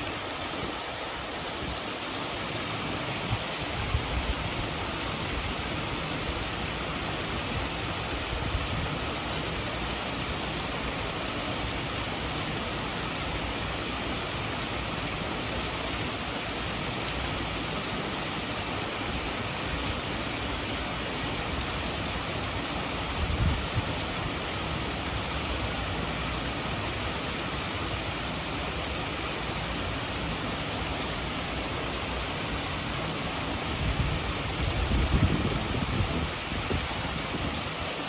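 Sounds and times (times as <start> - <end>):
waterfall splashing into pond: 0.0 - 38.0.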